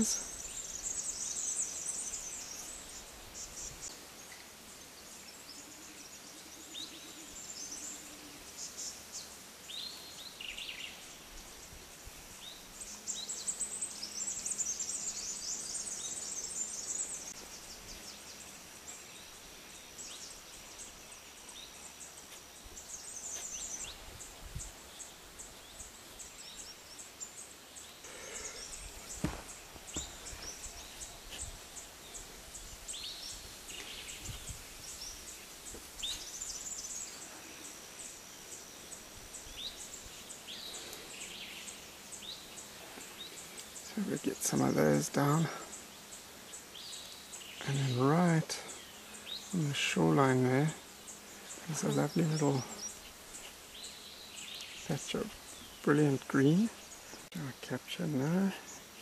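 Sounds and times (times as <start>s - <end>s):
birds chirping and trilling: 0.0s - 59.0s
faint background hiss: 0.0s - 59.0s.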